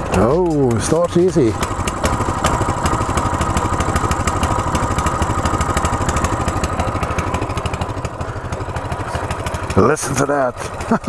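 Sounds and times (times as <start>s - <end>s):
mini bike engine idling: 0.0s - 11.0s.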